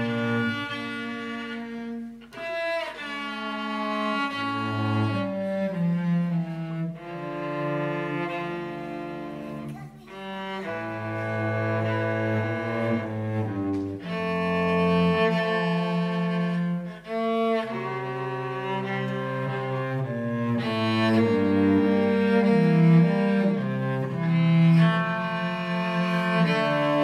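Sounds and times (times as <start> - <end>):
cellos playing bowed duet: 0.0 - 27.0.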